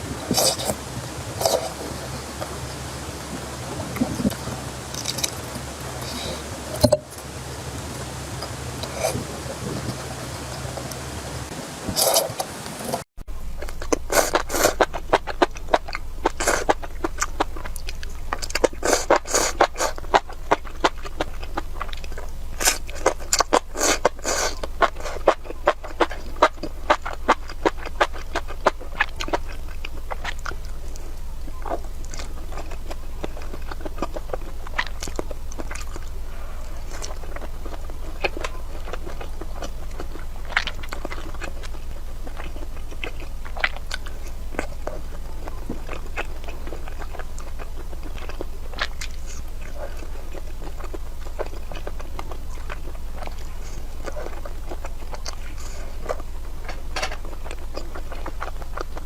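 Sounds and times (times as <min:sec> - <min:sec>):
low steady hum: 0:00.0 - 0:59.0
crisp crunching bites: 0:04.3 - 0:06.2, 0:13.4 - 0:59.0.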